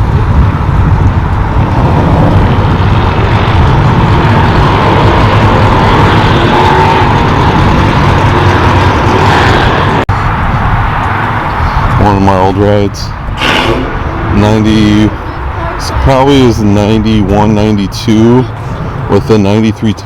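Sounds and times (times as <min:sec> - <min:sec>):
car engines and exhausts: 0:00.0 - 0:20.0.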